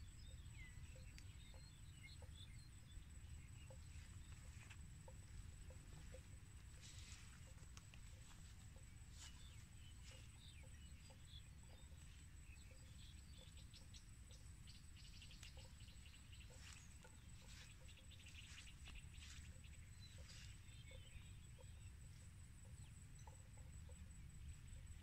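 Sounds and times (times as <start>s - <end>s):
small high chirps and ticks: 0.0s - 25.0s
steady high-pitched whine: 0.0s - 25.0s.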